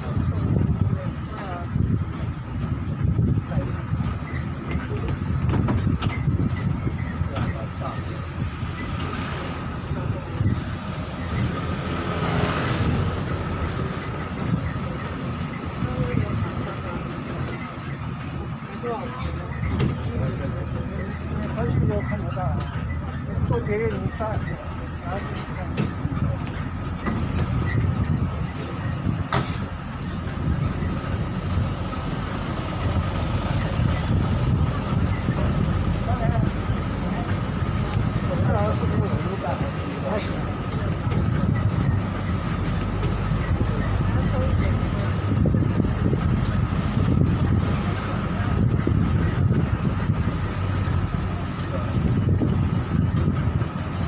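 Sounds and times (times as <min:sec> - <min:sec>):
wind rush: 0:00.0 - 0:07.7, 0:08.3 - 0:18.7, 0:26.0 - 0:54.0
tram motor and wheels rumbling: 0:00.0 - 0:54.0.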